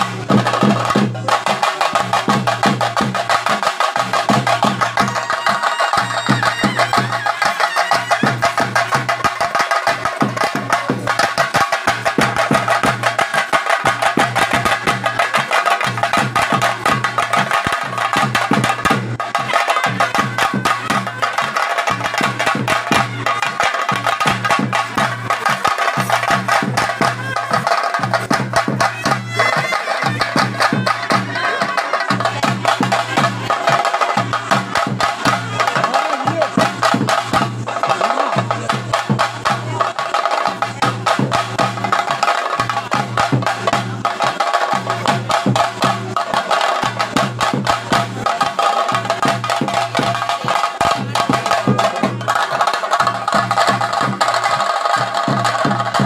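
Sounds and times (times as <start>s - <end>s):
drums beaten with sticks: 0.0s - 56.0s
low drum beat: 0.0s - 56.0s.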